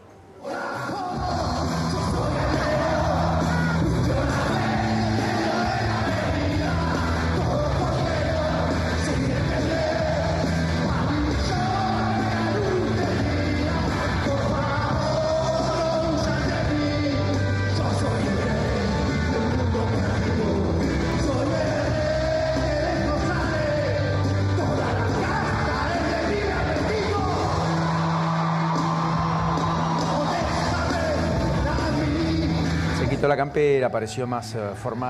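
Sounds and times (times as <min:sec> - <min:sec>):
singer belting and shouting: 0:00.4 - 0:35.0
drums: 0:00.8 - 0:33.8.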